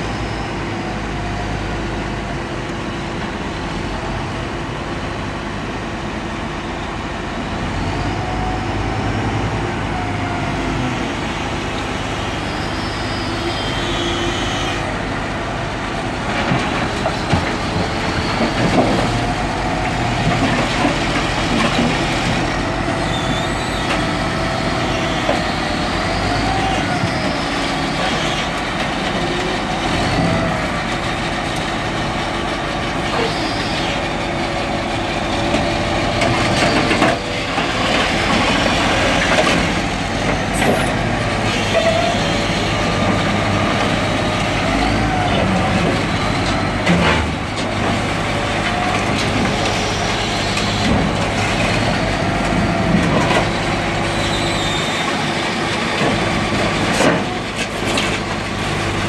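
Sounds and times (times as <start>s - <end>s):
heavy diesel engine running: 0.0s - 59.0s
hydraulics whining: 7.6s - 59.0s.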